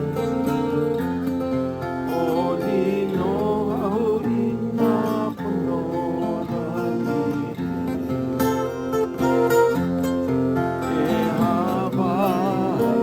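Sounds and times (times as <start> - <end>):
acoustic guitar strumming: 0.0 - 13.0
voices singing: 0.0 - 13.0.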